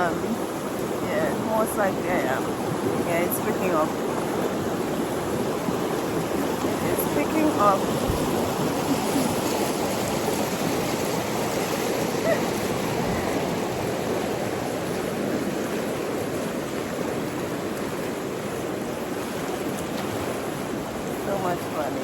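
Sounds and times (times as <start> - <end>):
river water rushing over rapids: 0.0 - 22.0.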